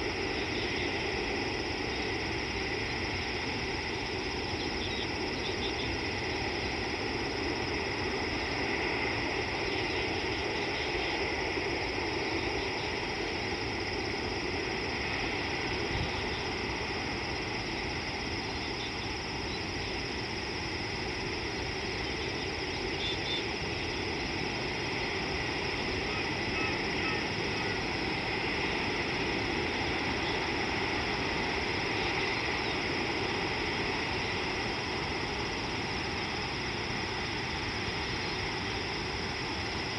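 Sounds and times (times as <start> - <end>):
background hiss: 0.0 - 39.9
high insect chorus: 0.0 - 39.9.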